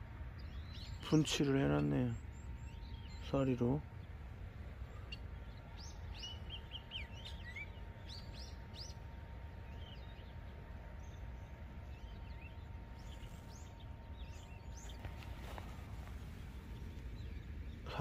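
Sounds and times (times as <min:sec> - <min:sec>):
faint steady hum: 0:00.0 - 0:18.0
low outdoor rumble: 0:00.0 - 0:18.0
small birds chirping: 0:00.0 - 0:18.0.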